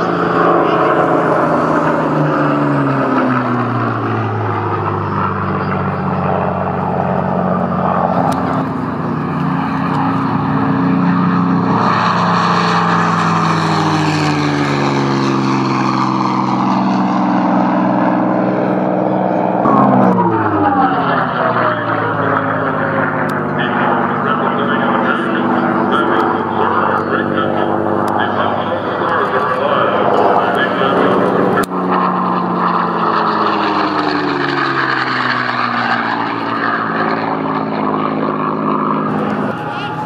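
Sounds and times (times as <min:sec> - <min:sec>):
propeller plane passing by: 0:00.0 - 0:40.0
propeller plane taking off: 0:00.0 - 0:40.0.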